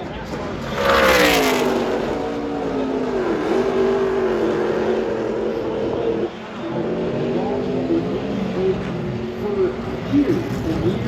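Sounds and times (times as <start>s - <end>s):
race truck engines at speed: 0.0s - 11.0s.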